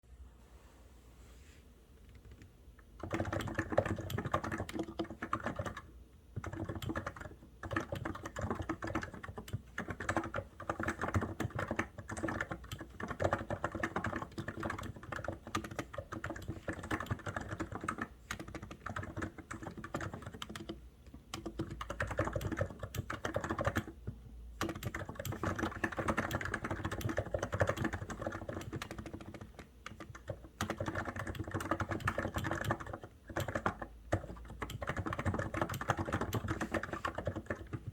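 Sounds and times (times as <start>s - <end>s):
typing on computer keyboard: 2.2s - 37.9s.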